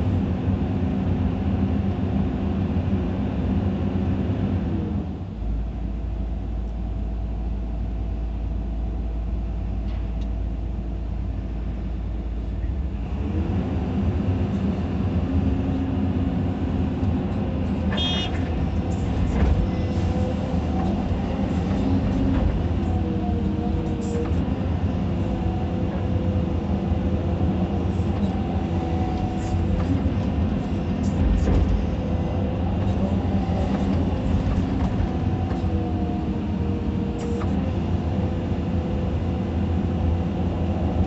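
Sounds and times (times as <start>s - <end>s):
excavator engine and hydraulics: 0.0s - 41.0s.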